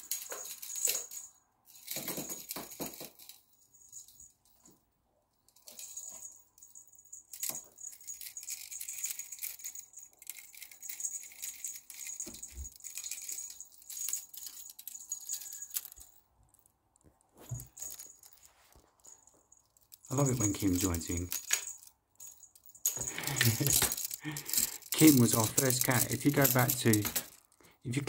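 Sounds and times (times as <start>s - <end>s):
cat toy jingling: 0.0s - 4.3s, 5.6s - 16.2s, 17.5s - 27.6s.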